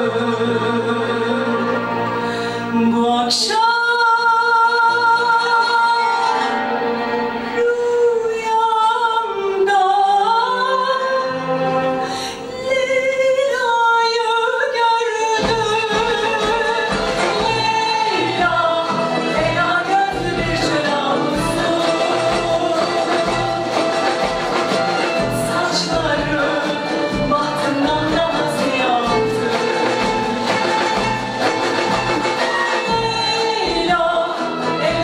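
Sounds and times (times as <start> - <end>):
string and percussion ensemble: 0.0 - 35.0.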